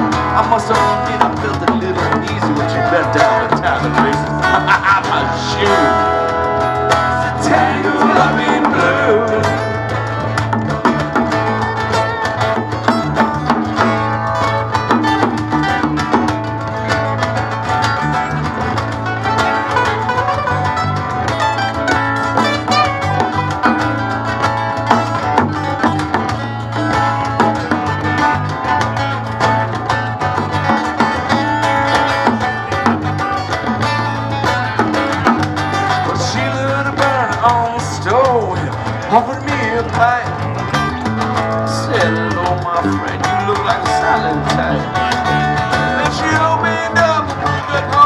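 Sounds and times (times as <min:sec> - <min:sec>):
bass: 0:00.0 - 0:48.0
bluegrass band playing: 0:00.0 - 0:48.0
plucked strings melody: 0:00.0 - 0:48.0.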